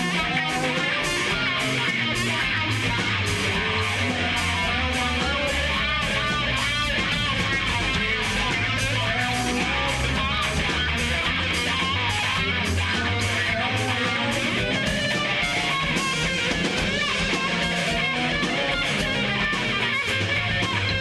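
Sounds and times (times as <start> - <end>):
bass: 0.0 - 21.0
electric guitar: 0.0 - 21.0
rock band playing live: 0.0 - 21.0
steady drum beat: 0.0 - 21.0.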